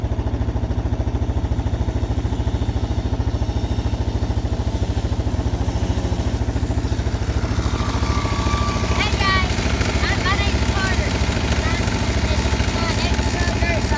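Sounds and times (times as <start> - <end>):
dirt bike engine running: 0.0 - 13.9.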